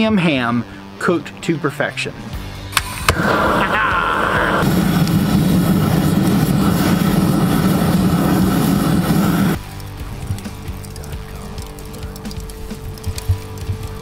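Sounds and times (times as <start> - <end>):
propane torch roaring flame: 2.8 - 14.0.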